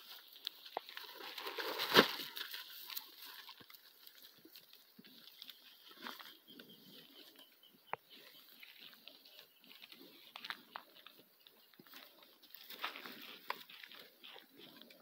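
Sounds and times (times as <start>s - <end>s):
cattle eating: 0.0s - 15.0s.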